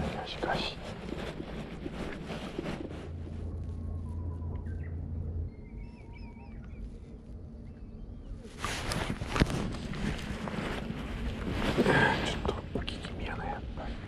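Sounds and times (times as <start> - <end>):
birds singing faintly: 0.0 - 14.0
low steady hum: 0.0 - 14.0.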